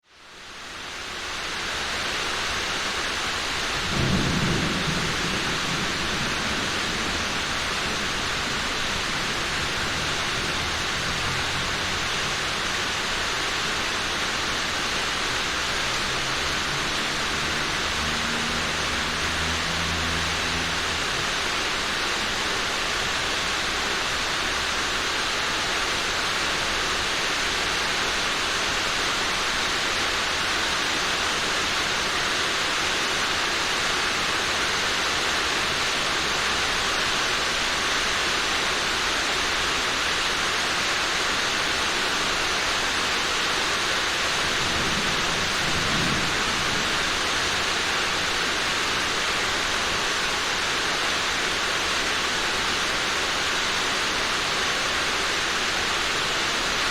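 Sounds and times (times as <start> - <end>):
rain on a roof: 0.0 - 56.9.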